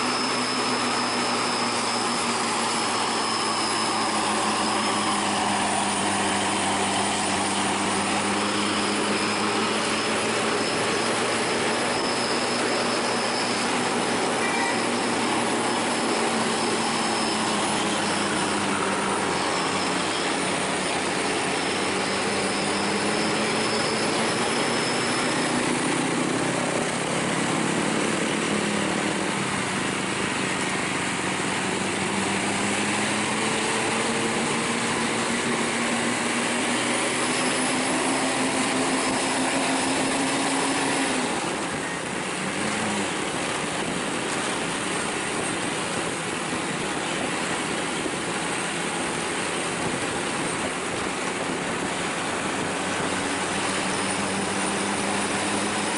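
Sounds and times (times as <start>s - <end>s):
road and wind rush: 0.0s - 55.9s
vehicle engine accelerating: 0.0s - 55.9s.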